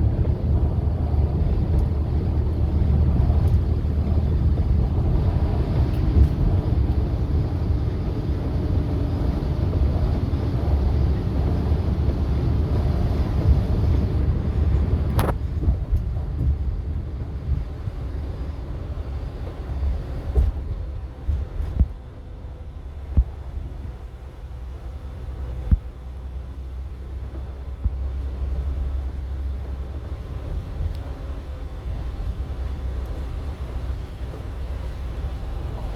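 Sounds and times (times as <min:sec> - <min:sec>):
coach engine and road rumble: 0:00.0 - 0:35.9.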